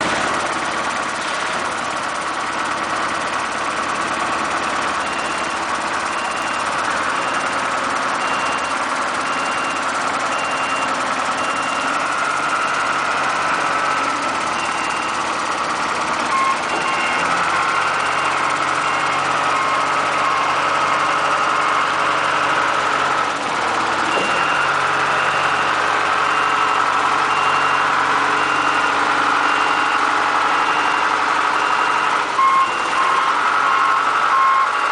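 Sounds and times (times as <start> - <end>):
diesel engine running: 0.0 - 34.9
reversing alarm beeping: 4.7 - 23.0, 24.0 - 34.9.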